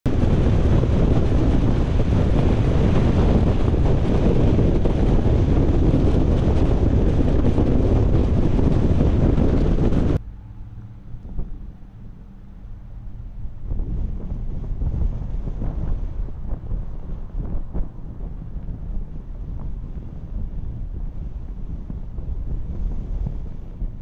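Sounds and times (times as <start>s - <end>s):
car wind and road noise: 0.0s - 24.0s.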